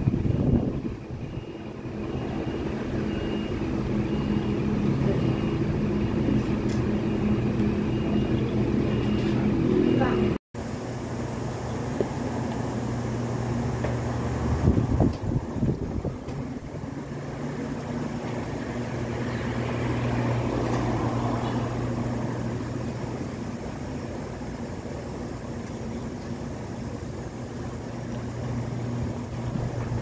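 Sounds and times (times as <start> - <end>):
mechanical hum and rumble: 0.0 - 30.0.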